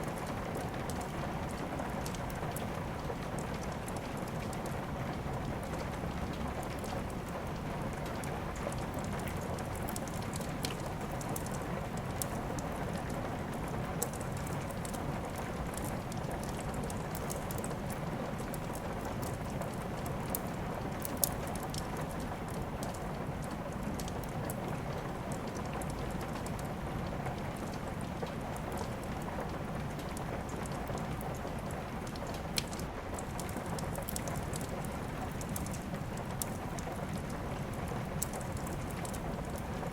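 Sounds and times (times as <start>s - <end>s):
steady rain: 0.0s - 39.9s
wood fire crackling and popping: 0.0s - 39.9s.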